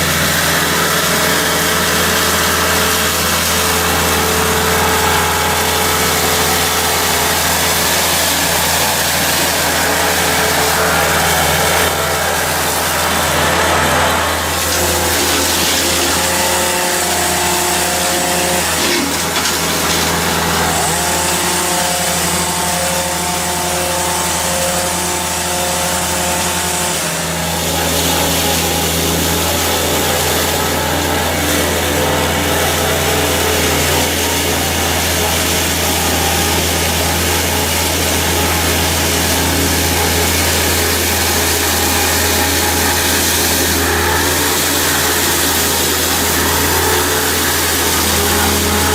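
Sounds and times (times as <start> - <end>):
heavy machinery engine drone: 0.0 - 48.9.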